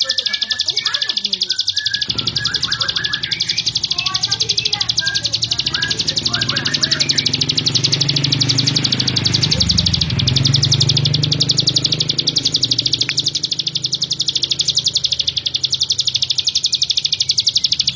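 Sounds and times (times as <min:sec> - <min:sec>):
bird singing high chatter: 0:00.0 - 0:17.9
steady low hum: 0:02.0 - 0:17.9.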